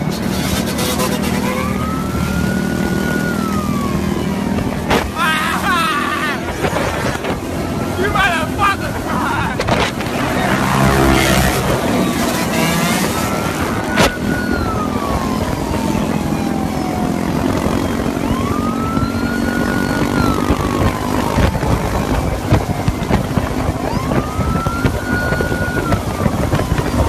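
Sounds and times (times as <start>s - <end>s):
police siren wailing: 0.0s - 27.0s.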